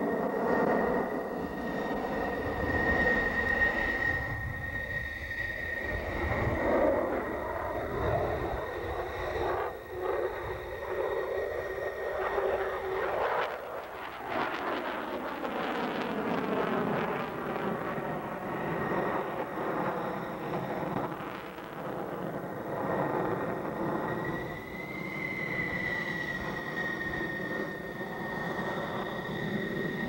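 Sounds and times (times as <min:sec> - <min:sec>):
jet fighter roar overhead: 0:00.0 - 0:30.0.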